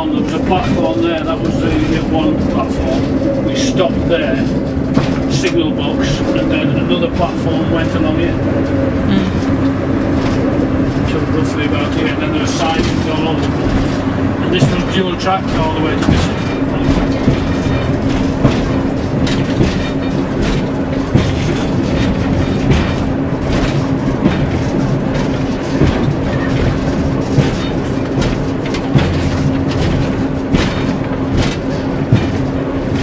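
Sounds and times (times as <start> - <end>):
diesel train engine drone: 0.0 - 33.0
wheels clicking over rail joints: 0.0 - 33.0.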